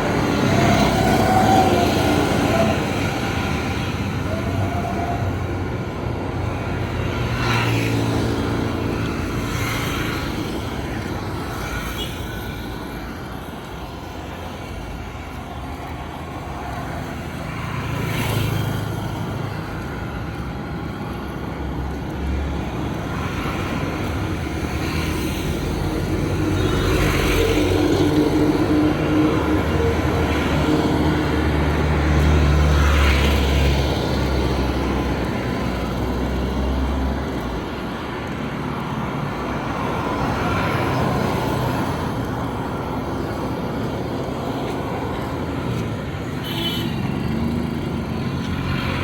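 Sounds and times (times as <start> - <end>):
motor vehicles passing by: 0.0 - 49.0
steady road noise: 0.0 - 49.0.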